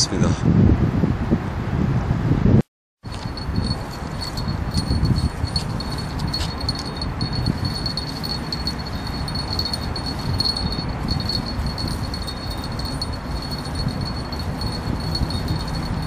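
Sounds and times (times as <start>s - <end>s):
wind buffeting microphone: 0.1s - 16.0s
high jingling ring: 3.0s - 16.0s.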